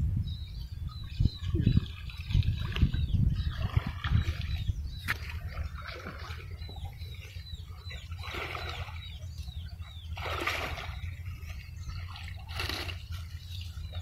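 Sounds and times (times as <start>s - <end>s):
water splashing: 1.2s - 14.0s.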